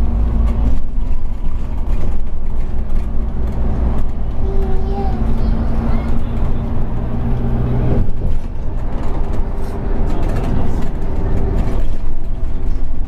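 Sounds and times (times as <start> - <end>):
bus diesel engine running: 0.0 - 13.0
road and tyre rumble: 0.0 - 13.0.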